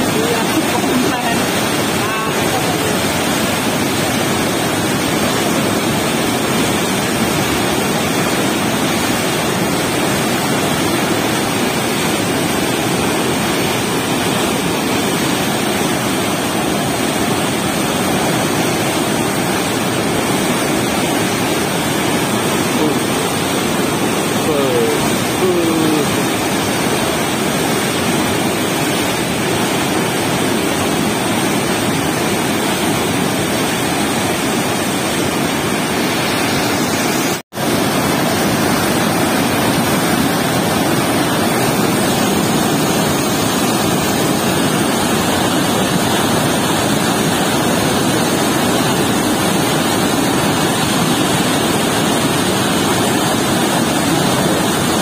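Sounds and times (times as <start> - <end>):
water rushing through sluice gate: 0.0 - 55.0.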